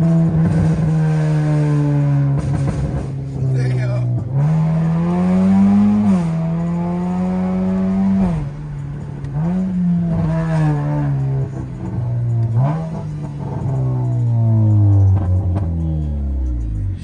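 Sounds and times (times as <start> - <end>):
car engine revving through exhaust: 0.0 - 17.0.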